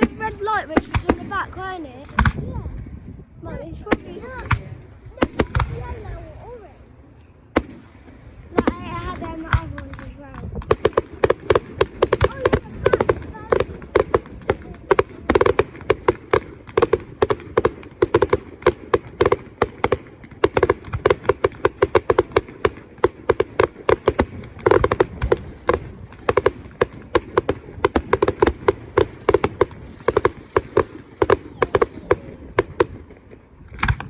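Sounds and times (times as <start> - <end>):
firecrackers banging: 0.0 - 34.0.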